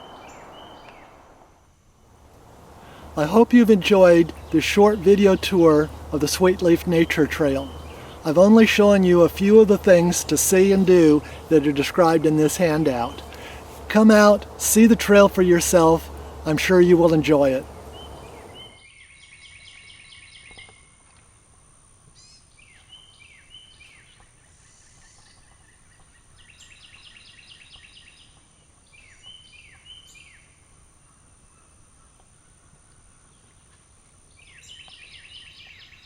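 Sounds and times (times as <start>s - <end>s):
faint songbirds singing: 0.0s - 1.3s, 2.2s - 36.0s.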